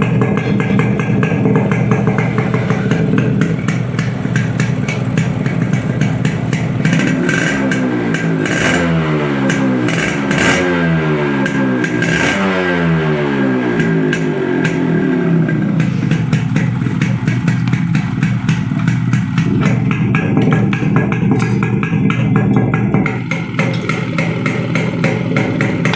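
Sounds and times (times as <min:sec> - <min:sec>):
two-stroke motorcycle engine revving: 0:00.0 - 0:25.9.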